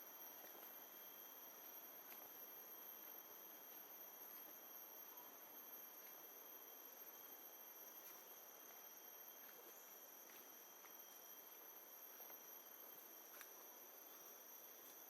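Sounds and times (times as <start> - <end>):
high drone of insects: 0.0 - 15.0.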